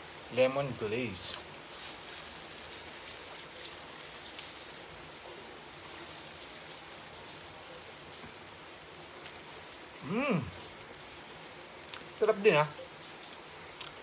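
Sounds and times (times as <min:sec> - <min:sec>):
crunchy crackles: 0:00.0 - 0:11.2, 0:12.9 - 0:14.0
background hiss: 0:00.0 - 0:14.0.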